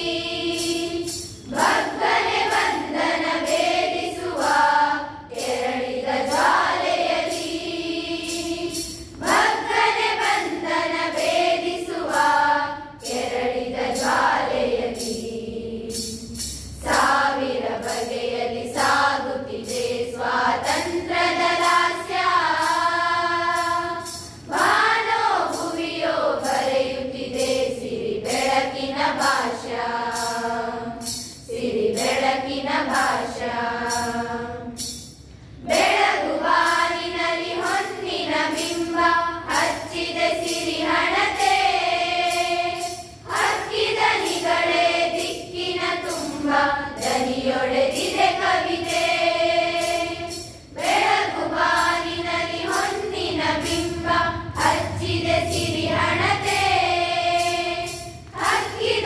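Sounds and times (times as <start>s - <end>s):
women singing in unison: 0.0s - 34.8s, 35.6s - 59.0s.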